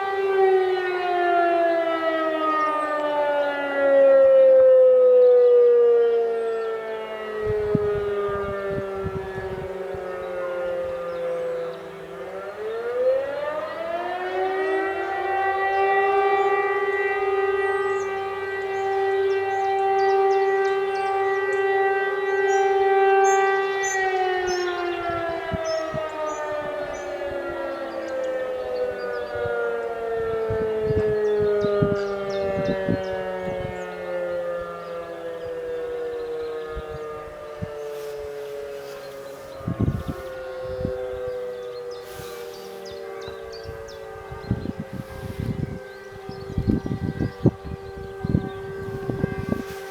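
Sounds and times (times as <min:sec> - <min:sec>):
civil defence sirens wailing: 0:00.0 - 0:49.9.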